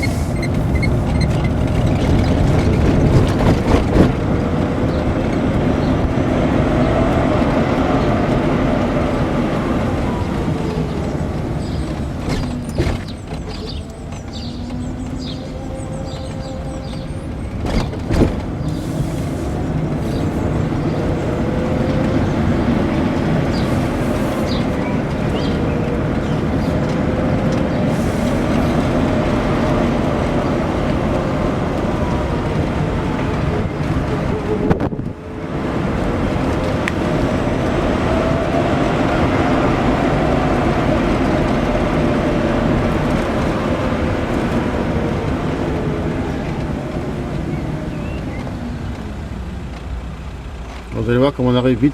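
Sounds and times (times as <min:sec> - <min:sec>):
road and tyre noise: 0:00.0 - 0:51.9.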